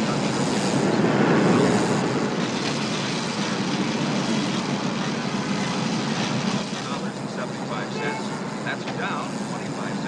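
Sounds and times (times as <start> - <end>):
city traffic roar: 0.0 - 10.0.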